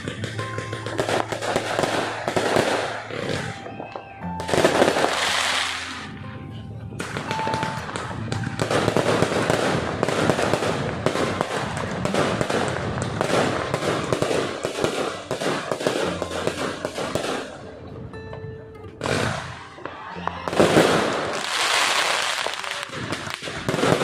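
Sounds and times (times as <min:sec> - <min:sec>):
fireworks bursting and crackling: 0:00.0 - 0:06.3, 0:06.9 - 0:18.0, 0:19.0 - 0:24.0.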